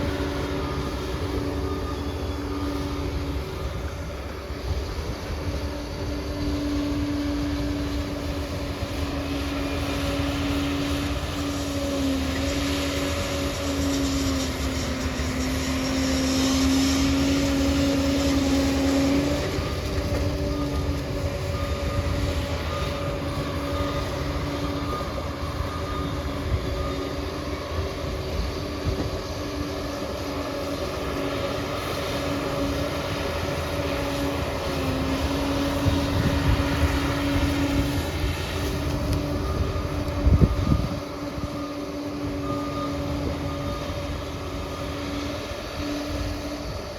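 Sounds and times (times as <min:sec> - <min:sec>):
constant rushing noise: 0:00.0 - 0:46.9
motor humming: 0:00.0 - 0:46.9.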